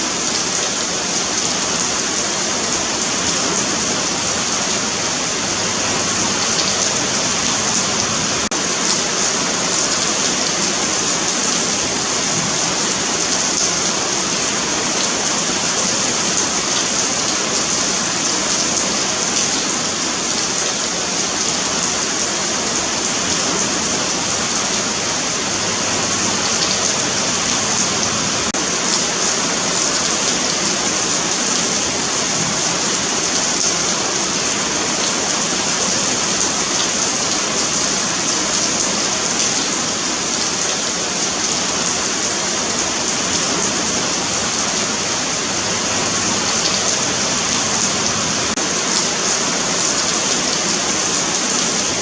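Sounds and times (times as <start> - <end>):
rain falling on pavement: 0.0 - 52.0.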